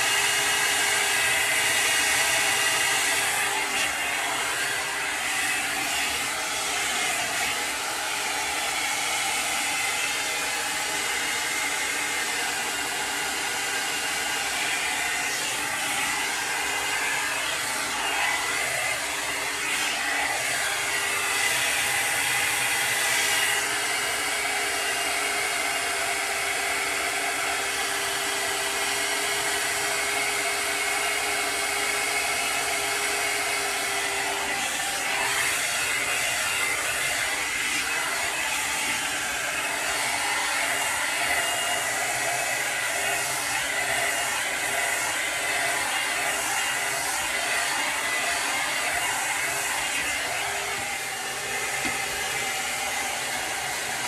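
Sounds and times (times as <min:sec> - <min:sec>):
blower fan whirring: 0:00.0 - 0:54.0.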